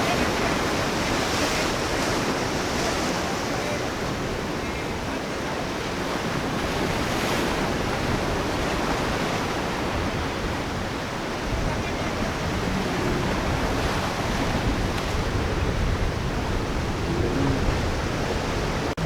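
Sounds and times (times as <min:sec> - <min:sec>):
waves breaking: 0:00.0 - 0:19.0
wind on microphone: 0:00.0 - 0:19.0.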